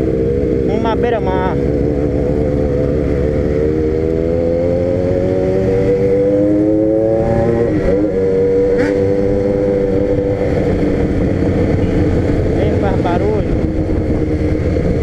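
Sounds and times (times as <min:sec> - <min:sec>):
motorcycle engine accelerating: 0:00.0 - 0:15.0
wind noise: 0:00.0 - 0:15.0.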